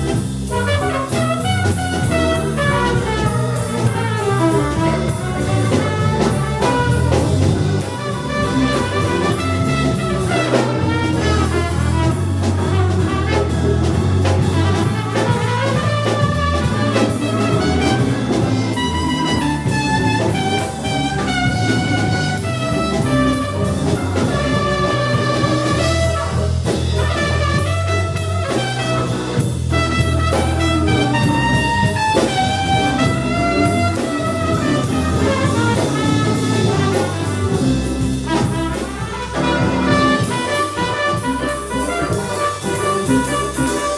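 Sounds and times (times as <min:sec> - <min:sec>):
drum kit: 0:00.0 - 0:43.9
horn melody: 0:00.0 - 0:43.9
walking bass: 0:00.0 - 0:43.9.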